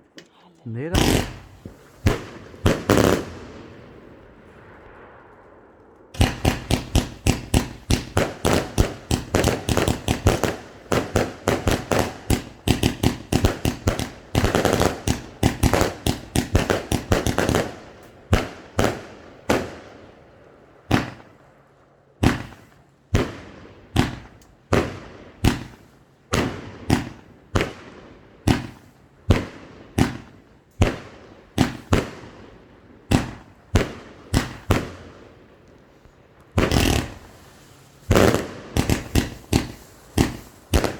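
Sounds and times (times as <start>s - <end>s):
fireworks shots: 0.0s - 40.9s.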